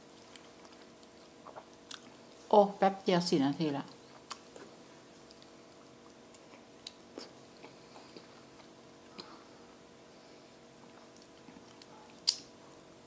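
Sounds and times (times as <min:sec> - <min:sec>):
chewing soft fruit: 0:00.0 - 0:02.5, 0:03.8 - 0:09.9, 0:10.5 - 0:12.8
faint steady hum: 0:00.0 - 0:13.0.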